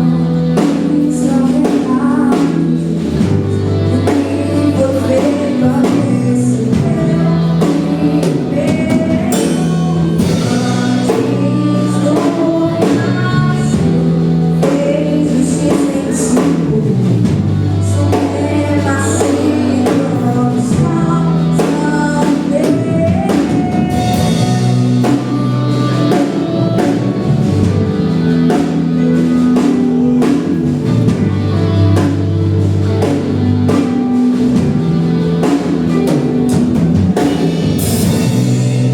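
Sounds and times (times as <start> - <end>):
voices singing gospel song: 0.0 - 34.4
band with bass and drums: 0.0 - 38.9.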